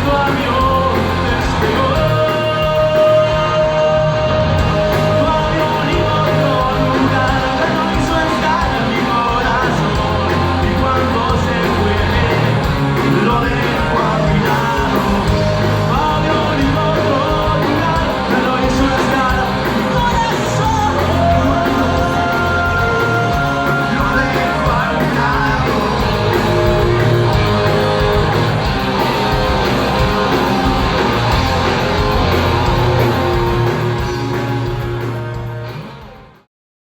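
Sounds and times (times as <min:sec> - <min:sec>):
person singing: 0:00.0 - 0:35.6
rock band playing live: 0:00.0 - 0:36.5.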